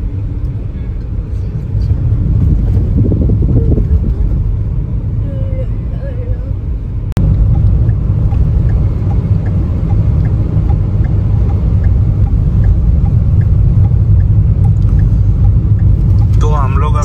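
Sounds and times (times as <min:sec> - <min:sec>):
car cabin road noise: 0:00.0 - 0:17.0.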